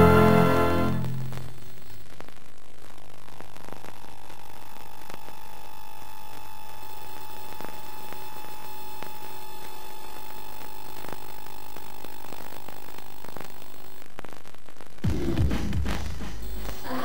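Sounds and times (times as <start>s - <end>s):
high whine from tape playback: 0.0s - 17.0s.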